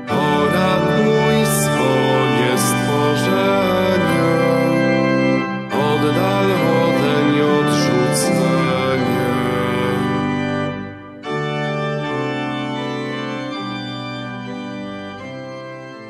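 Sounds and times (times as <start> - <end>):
organ playing held chords: 0.0 - 16.0.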